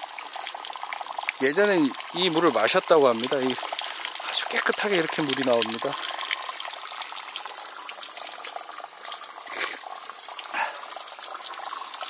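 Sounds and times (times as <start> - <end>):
water pouring and splashing into pool: 0.0 - 12.0.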